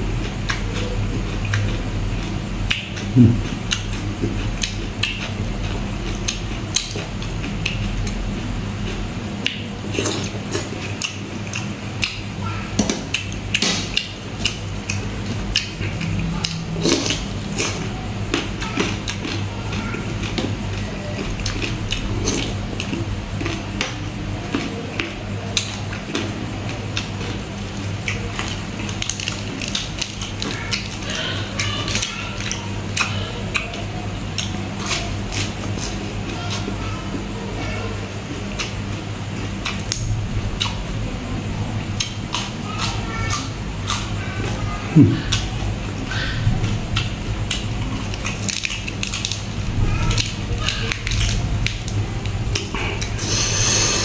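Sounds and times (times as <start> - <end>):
crunchy chewing: 0.0 - 41.0, 41.8 - 54.0
steady low hum: 0.0 - 54.0.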